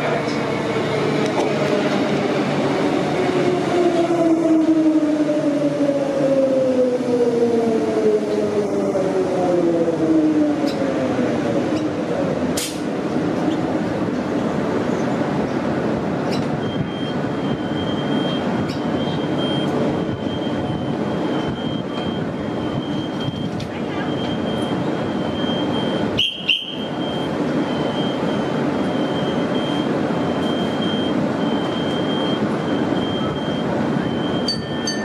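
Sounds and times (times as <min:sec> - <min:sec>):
standing train steady noise: 0:00.0 - 0:35.0.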